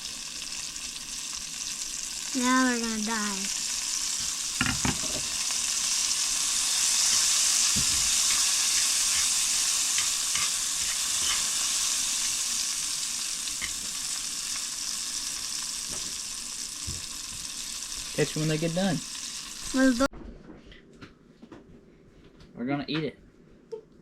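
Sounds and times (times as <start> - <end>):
insects sizzling in hot grease: 0.0 - 20.1.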